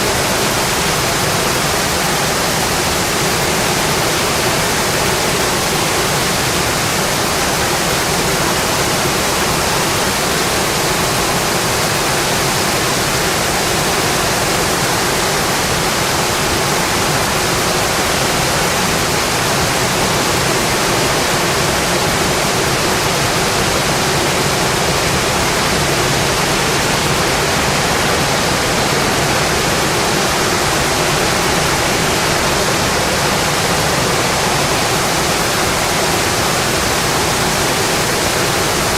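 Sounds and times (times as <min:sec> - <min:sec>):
rain on a windowpane: 0:00.0 - 0:38.9.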